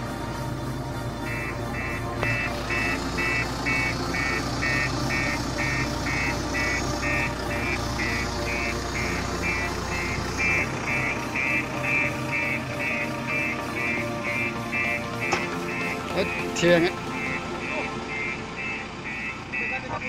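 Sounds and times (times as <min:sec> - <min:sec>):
diesel engine running: 0:00.0 - 0:20.0
vehicle warning beeper: 0:01.2 - 0:20.0.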